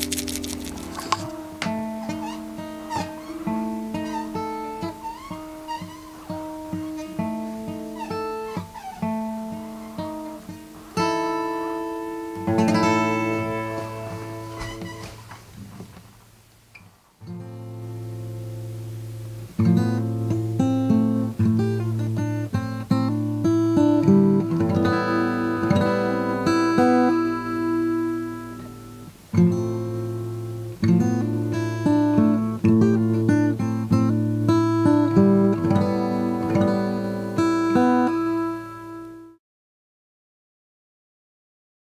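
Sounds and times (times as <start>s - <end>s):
acoustic guitar music: 0.0s - 39.4s.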